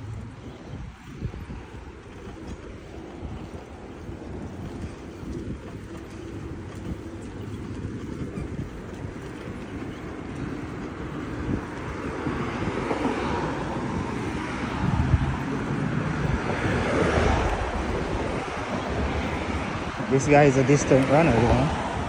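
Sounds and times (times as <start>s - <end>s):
bicycle road noise: 0.0s - 22.0s
wind rushing over microphone: 0.0s - 22.0s.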